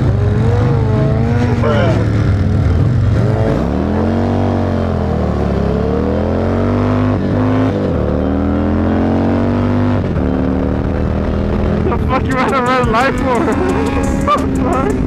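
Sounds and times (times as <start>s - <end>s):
gear changes: 0.0s - 15.0s
sport bike engine revving: 0.0s - 15.0s.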